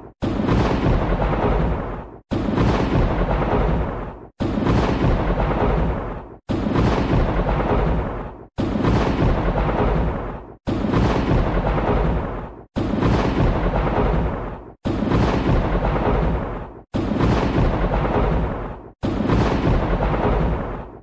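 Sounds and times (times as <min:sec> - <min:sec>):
loud rumbling crash: 0:00.2 - 0:21.0.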